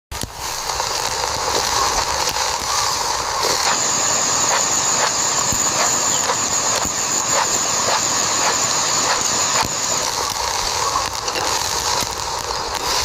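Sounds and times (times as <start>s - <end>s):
food sizzling in a hot pan: 0.1s - 13.0s.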